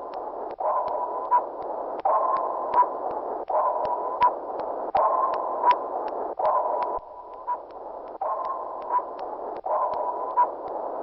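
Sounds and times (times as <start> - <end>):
scattered clicks: 0.0 - 11.0.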